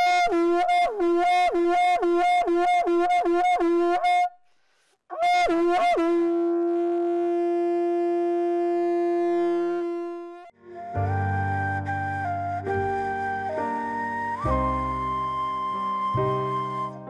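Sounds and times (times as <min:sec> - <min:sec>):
conch shell blowing: 0:00.0 - 0:04.4, 0:05.1 - 0:17.0.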